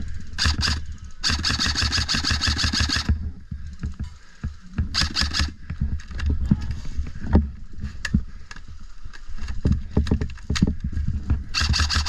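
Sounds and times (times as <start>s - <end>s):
wind rumble: 0.0s - 12.0s.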